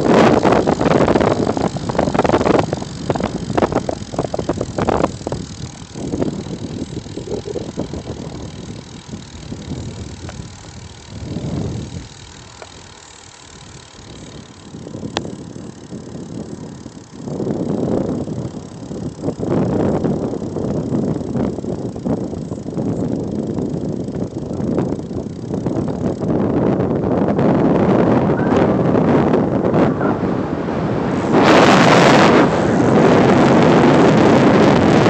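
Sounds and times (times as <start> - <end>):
road rumble: 0.0 - 35.0
wind rushing over microphone: 0.0 - 35.0.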